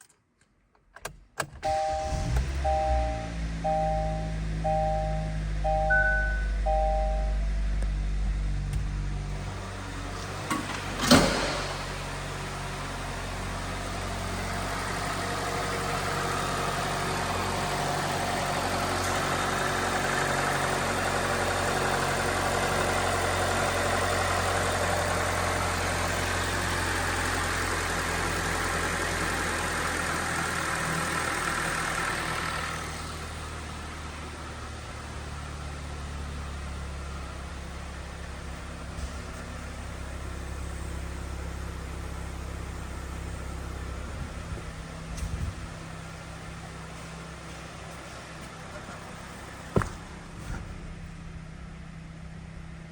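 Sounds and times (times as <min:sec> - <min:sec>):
car engine running: 0:01.6 - 0:52.9.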